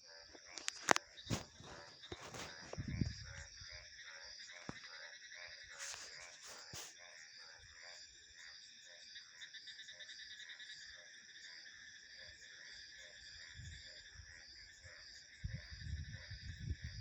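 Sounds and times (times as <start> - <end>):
crickets and insects trilling: 0.0 - 17.0
frogs croaking: 0.0 - 17.0.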